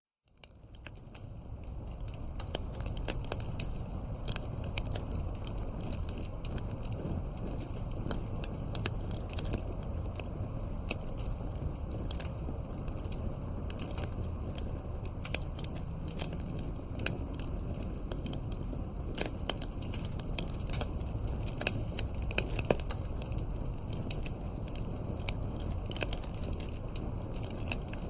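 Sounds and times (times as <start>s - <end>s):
low rumble of flame: 0.2s - 28.0s
campfire wood crackling: 0.3s - 28.0s.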